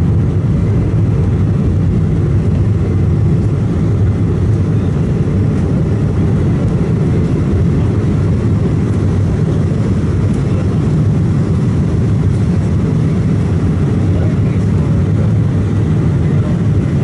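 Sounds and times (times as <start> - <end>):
airliner takeoff roll: 0.0 - 17.0
jet engines low rumble: 0.0 - 17.0.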